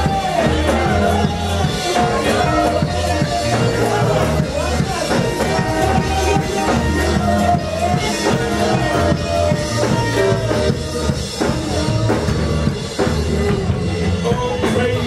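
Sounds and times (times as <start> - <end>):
drum kit beat: 0.0 - 15.0
keyboard: 0.0 - 15.0
live band playing dance music: 0.0 - 15.0.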